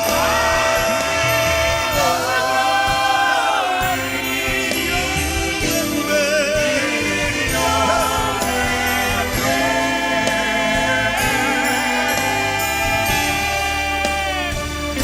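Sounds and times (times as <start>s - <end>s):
band playing sustained chords: 0.0s - 15.0s
people singing: 0.0s - 15.0s.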